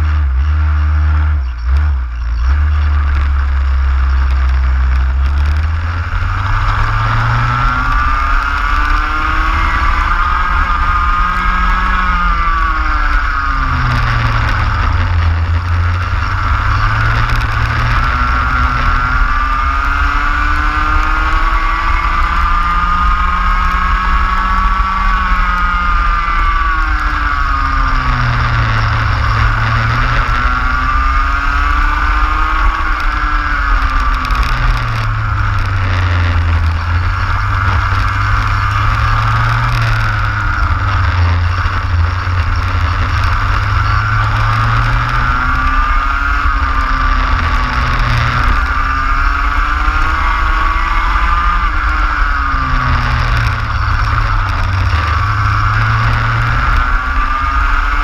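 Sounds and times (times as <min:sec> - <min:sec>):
kart engine accelerating: 0:00.0 - 0:58.0.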